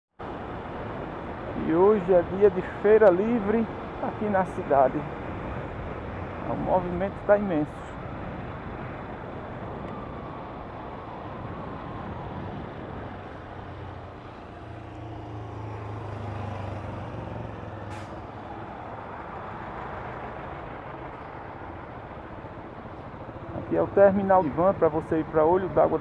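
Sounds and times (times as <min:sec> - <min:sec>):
traffic passing: 0:00.2 - 0:26.0.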